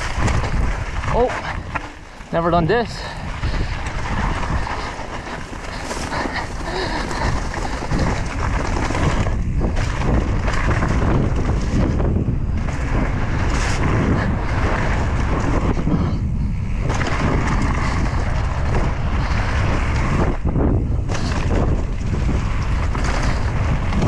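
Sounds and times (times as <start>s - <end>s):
bike tyres on dirt trail: 0.0s - 24.0s
wind rushing over microphone: 0.0s - 24.0s.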